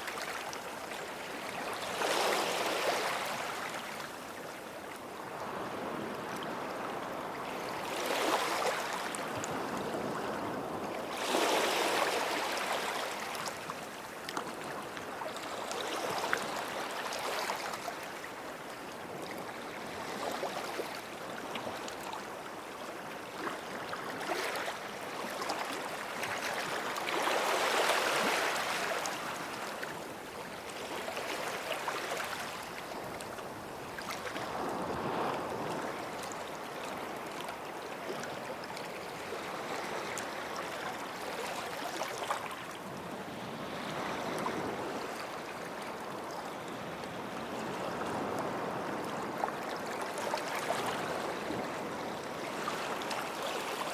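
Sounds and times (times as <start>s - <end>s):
small waves washing onto shore: 5.2s - 22.6s, 23.4s - 53.9s.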